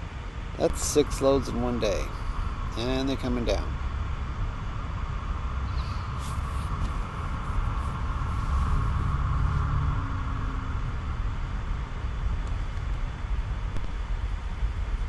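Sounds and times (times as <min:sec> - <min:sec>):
truck engines rumbling: 0:00.0 - 0:14.9.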